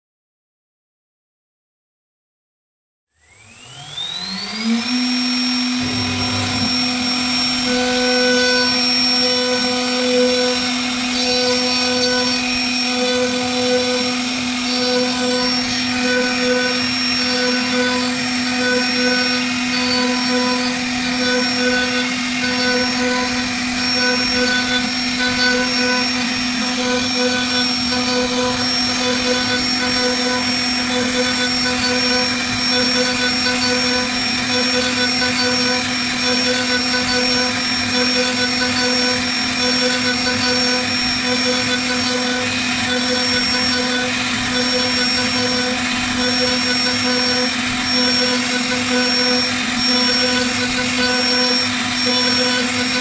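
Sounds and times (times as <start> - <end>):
router spindle whining: 3.2 - 53.0.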